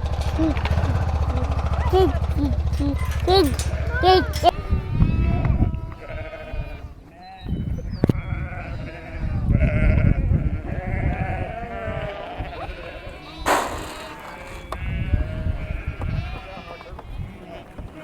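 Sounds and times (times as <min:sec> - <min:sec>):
sheep bleating: 0:00.0 - 0:07.6, 0:08.2 - 0:18.0.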